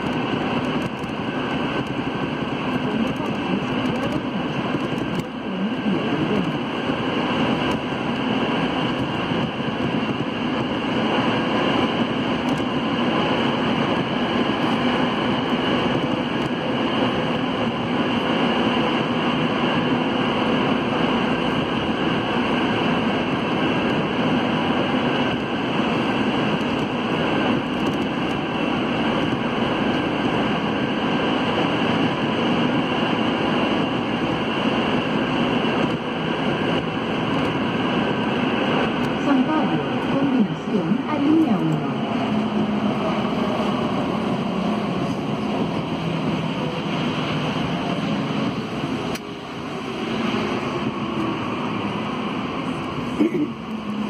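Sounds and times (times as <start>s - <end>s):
metro train running in tunnel: 0.0s - 54.0s.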